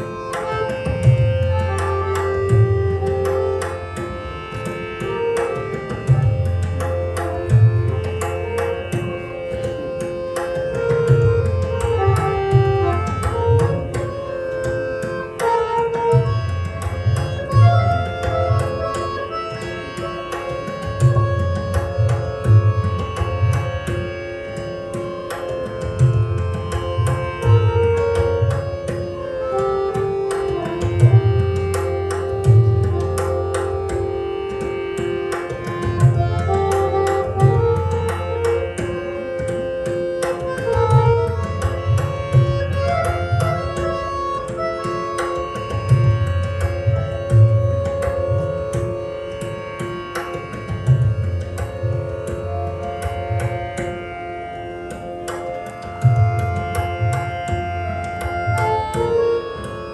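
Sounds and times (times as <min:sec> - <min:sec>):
harmonium melody: 0:00.0 - 0:59.9
tabla drumming: 0:00.0 - 0:59.9.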